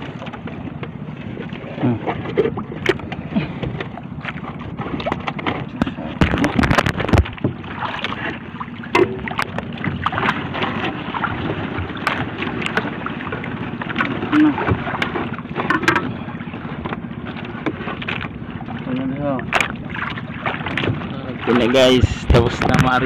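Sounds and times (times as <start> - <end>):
water washing: 0.0 - 23.0
wind: 0.0 - 23.0
small splashes: 4.2 - 23.0.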